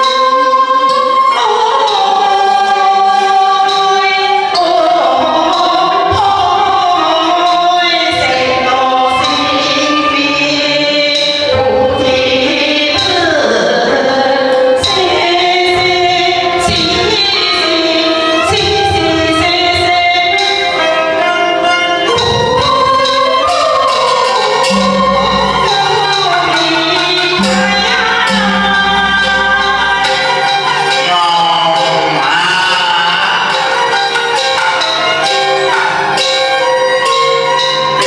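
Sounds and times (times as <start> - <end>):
opera singing: 0.0 - 35.8
percussion strokes: 0.0 - 38.0
traditional instrumental accompaniment: 0.0 - 38.0.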